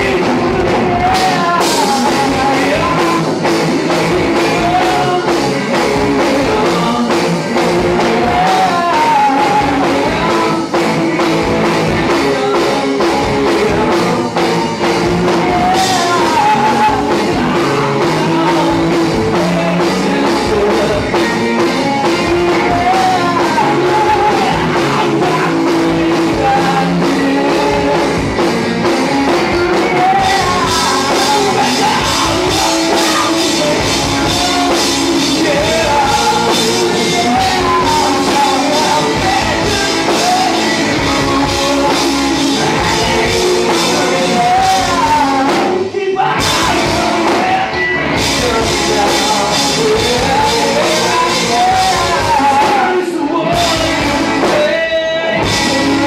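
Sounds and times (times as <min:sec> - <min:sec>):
drum kit: 0:00.0 - 0:56.0
electric bass: 0:00.0 - 0:56.0
electric guitars: 0:00.0 - 0:56.0
person singing: 0:00.0 - 0:56.0.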